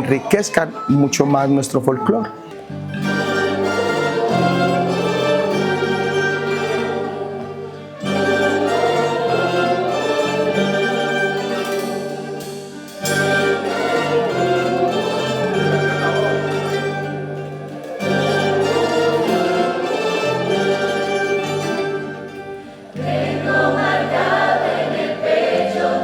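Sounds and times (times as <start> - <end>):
plucked strings: 0.0 - 26.0.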